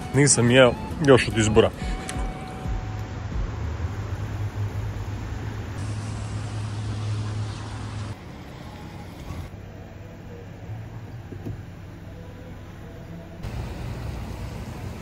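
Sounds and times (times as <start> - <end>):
street hum: 0.0 - 15.0
traffic rumble: 0.0 - 15.0.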